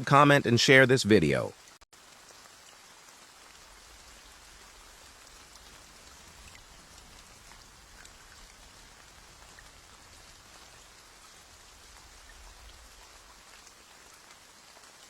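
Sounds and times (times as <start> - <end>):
faint rain-like hiss: 0.0 - 15.0.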